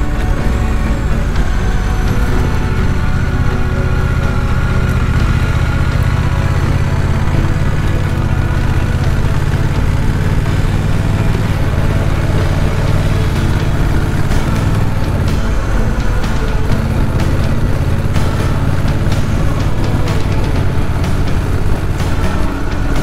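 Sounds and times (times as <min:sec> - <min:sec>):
motorcycle engine and exhaust: 0:00.0 - 0:23.0.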